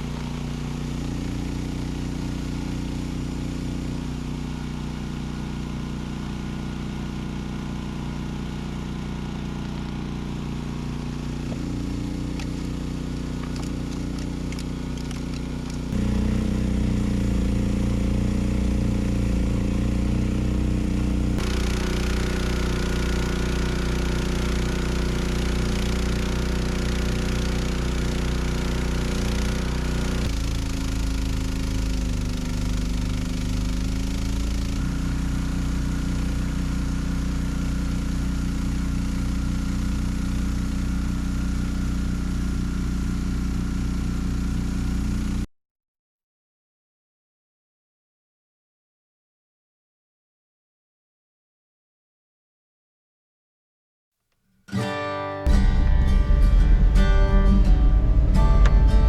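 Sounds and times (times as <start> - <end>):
snowblower engine running: 0.0 - 45.5, 54.7 - 59.0.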